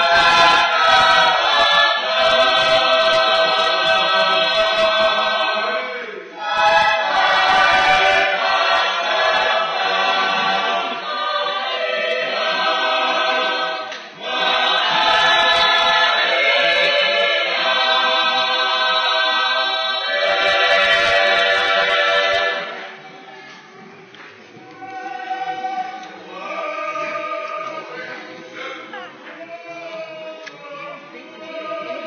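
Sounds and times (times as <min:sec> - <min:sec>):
choir singing in parts: 0:00.0 - 0:23.2, 0:24.7 - 0:28.4.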